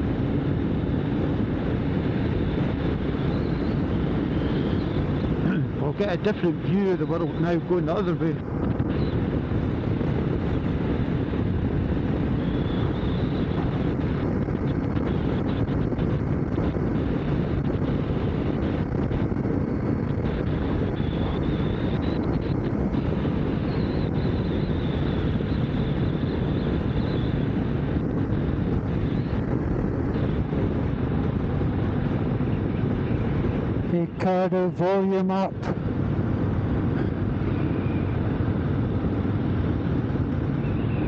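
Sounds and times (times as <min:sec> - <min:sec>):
motorcycle engine and road noise: 0:00.0 - 0:41.0
wind rush over microphone: 0:00.0 - 0:41.0.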